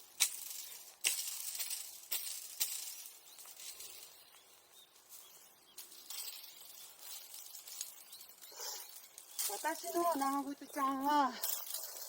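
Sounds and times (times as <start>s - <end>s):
embers clinking: 0.0s - 12.0s
embers crackling: 0.0s - 12.0s.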